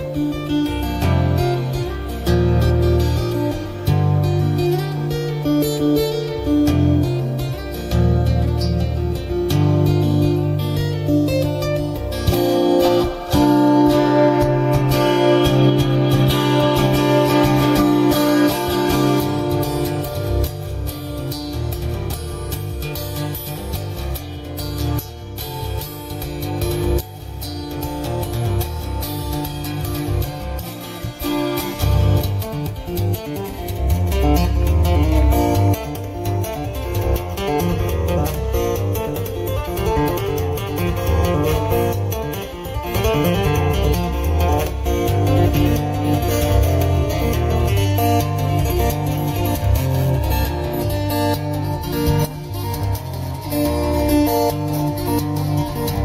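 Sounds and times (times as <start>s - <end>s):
strummed acoustic guitar music: 0.0s - 56.0s.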